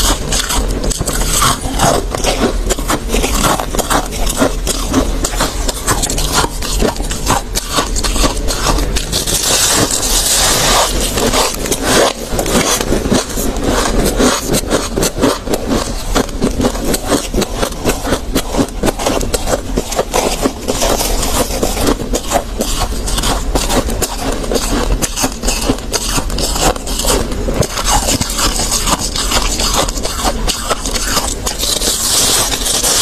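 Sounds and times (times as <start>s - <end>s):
ice crunching while chewed: 0.0s - 33.0s.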